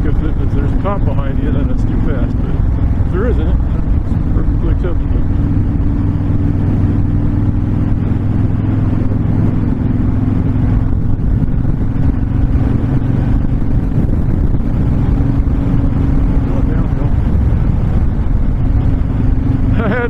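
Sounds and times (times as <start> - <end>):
motorcycle engine running: 0.0 - 20.0
wind rushing past microphone: 0.0 - 20.0.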